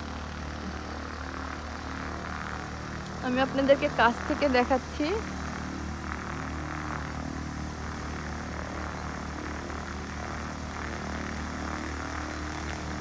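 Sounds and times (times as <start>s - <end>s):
propeller plane engine idling: 0.0s - 13.0s.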